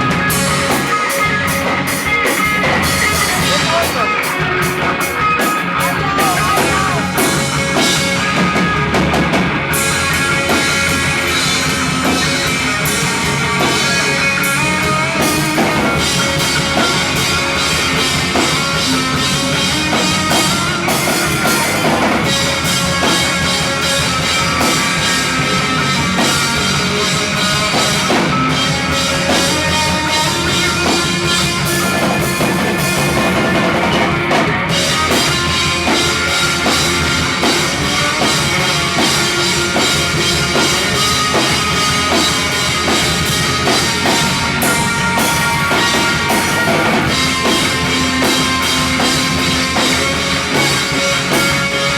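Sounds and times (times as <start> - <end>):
drum kit: 0.0 - 51.9
electric guitars: 0.0 - 51.9.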